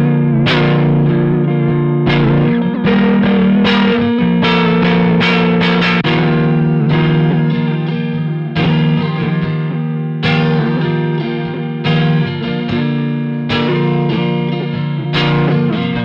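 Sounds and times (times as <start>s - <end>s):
electric guitar chords with vibrato: 0.0s - 16.0s.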